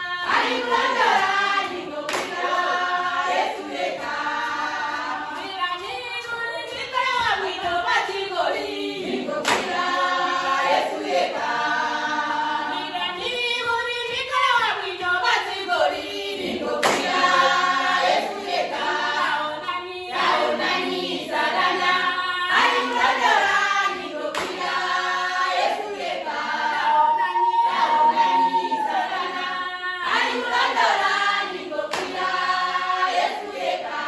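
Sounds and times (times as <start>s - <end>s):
women singing a cappella: 0.0s - 34.0s
hand clapping: 0.3s - 11.9s, 13.1s - 21.0s, 21.6s - 26.4s, 30.1s - 34.0s.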